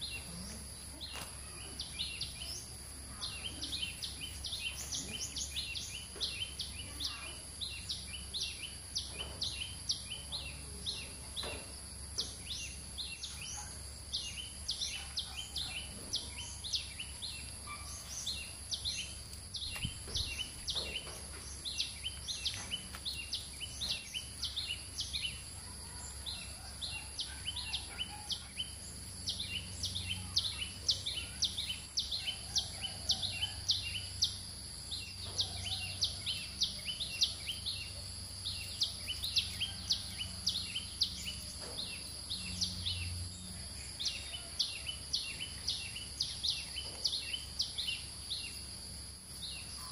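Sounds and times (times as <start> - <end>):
birds chirping rapidly: 0.0 - 49.9.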